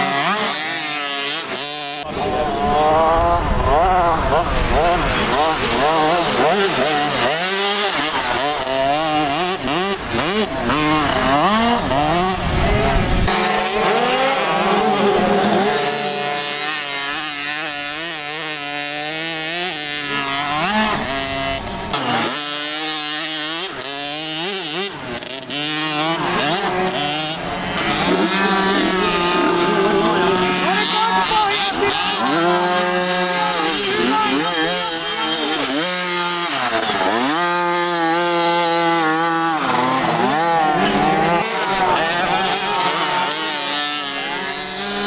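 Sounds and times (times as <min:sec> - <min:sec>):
motocross bike engines revving: 0:00.0 - 0:45.0.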